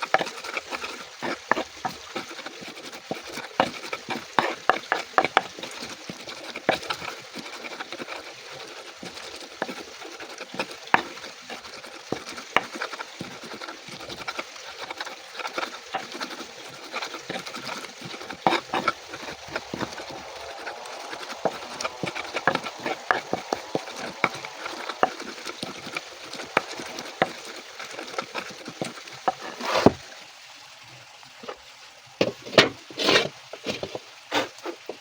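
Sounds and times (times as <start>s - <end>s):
utensil scraping a pan: 0.0s - 30.1s, 32.2s - 35.0s
steady hiss: 0.0s - 35.0s.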